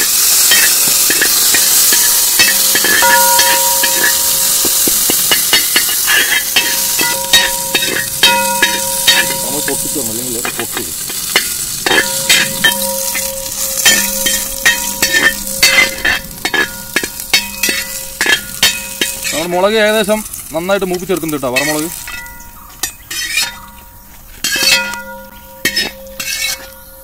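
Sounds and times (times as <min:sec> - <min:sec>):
skimmer scraping pan: 0:00.0 - 0:26.8
chillies sizzling in oil: 0:00.0 - 0:27.0.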